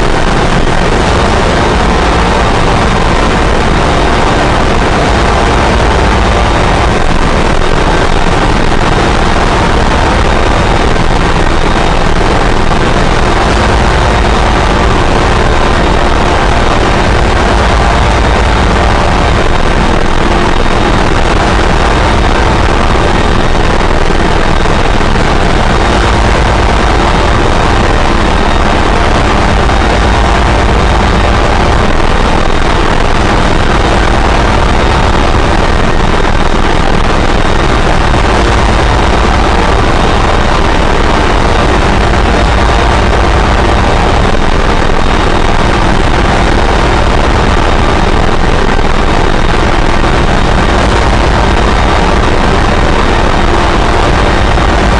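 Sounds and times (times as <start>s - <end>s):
distorted harsh noise: 0.0s - 54.9s
heavy low rumble: 0.0s - 54.9s.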